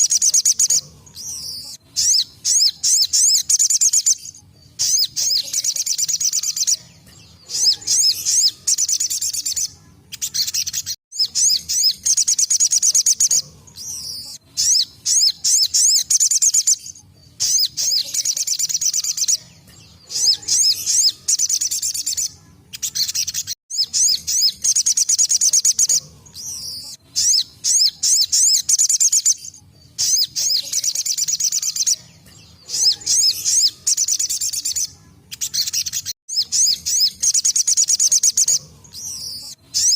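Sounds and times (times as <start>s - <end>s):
sunbird twittering trills: 0.0s - 39.9s.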